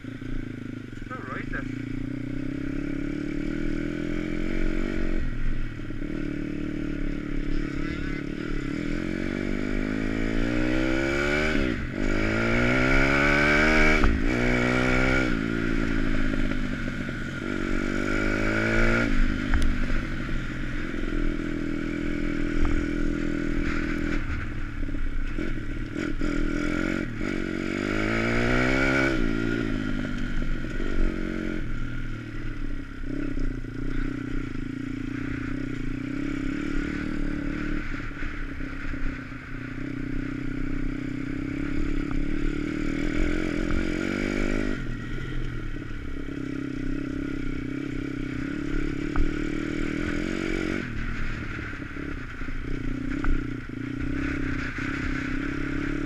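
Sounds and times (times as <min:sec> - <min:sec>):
dirt bike engine revving: 0:00.0 - 0:31.8, 0:33.0 - 0:56.0.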